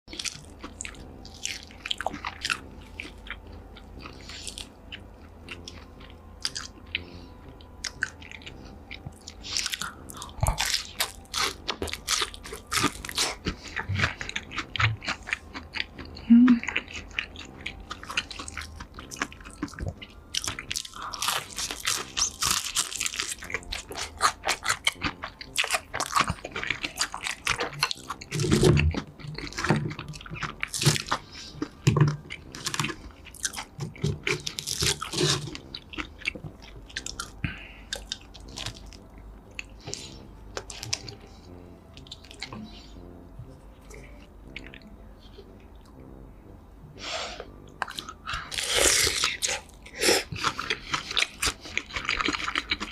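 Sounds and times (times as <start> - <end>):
crunchy chewing of food: 0.1 - 52.9.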